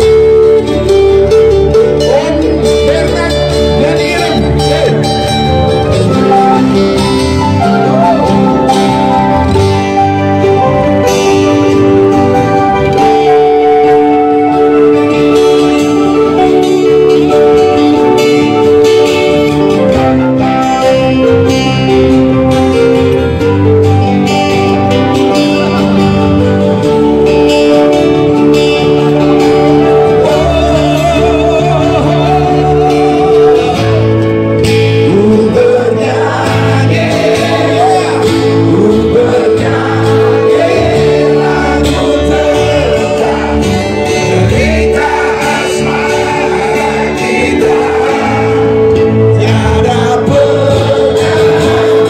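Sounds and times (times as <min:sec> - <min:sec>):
electric bass: 0:00.0 - 0:52.0
strummed acoustic guitars: 0:00.0 - 0:52.0
man singing: 0:00.1 - 0:20.9, 0:27.3 - 0:52.0.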